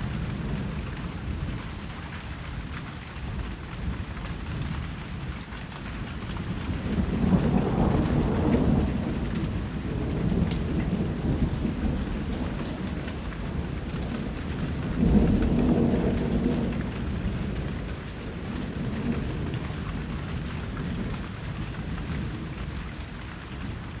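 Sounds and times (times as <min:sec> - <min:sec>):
rain falling: 0:00.0 - 0:24.0
thunder rumbling: 0:00.0 - 0:24.0.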